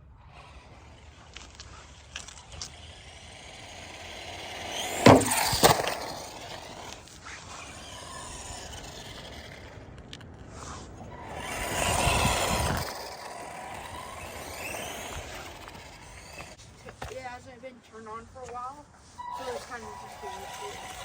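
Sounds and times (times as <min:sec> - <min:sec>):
rc truck motor whine: 0:00.0 - 0:17.3, 0:19.0 - 0:21.0.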